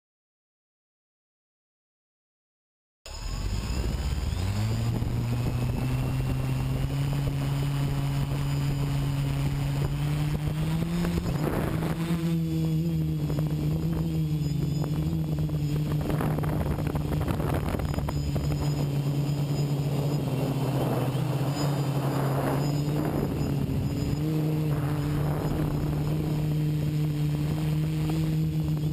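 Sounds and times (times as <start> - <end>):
quadcopter propellers buzzing: 3.1 - 28.9.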